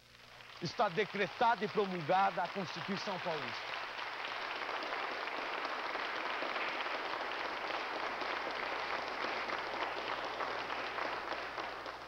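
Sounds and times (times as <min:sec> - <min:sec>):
large group applauding: 0:00.0 - 0:12.0.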